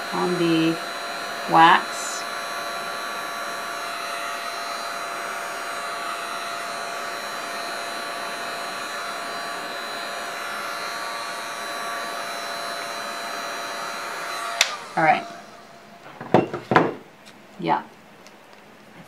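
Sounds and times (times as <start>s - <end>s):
heat gun blowing air: 0.0s - 16.1s.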